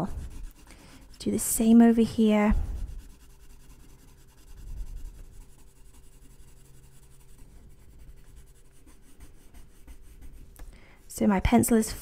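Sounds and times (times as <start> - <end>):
pencil scratching on paper: 0.0 - 11.1
low steady hum: 0.0 - 12.0.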